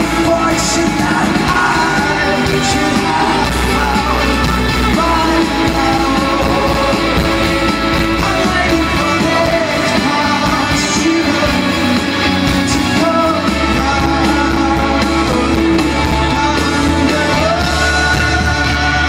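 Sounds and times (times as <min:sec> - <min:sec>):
lead singer singing: 0:00.0 - 0:19.0
rock band playing live: 0:00.0 - 0:19.0.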